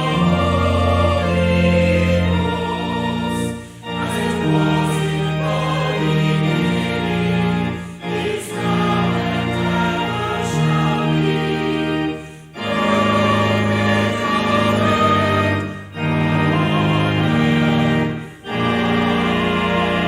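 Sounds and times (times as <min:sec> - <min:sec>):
church organ chords: 0:00.0 - 0:20.0.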